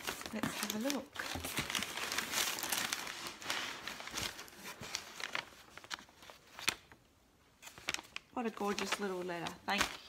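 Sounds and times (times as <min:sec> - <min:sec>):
packing paper crinkling: 0:00.0 - 0:10.0.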